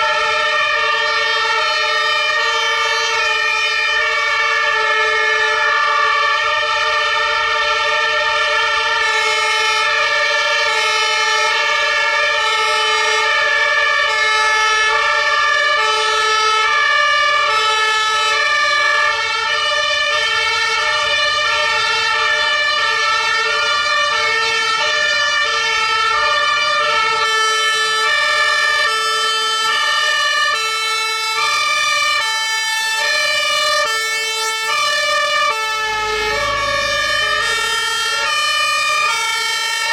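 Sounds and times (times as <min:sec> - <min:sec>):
two-tone fire engine siren: 0:00.0 - 0:39.9.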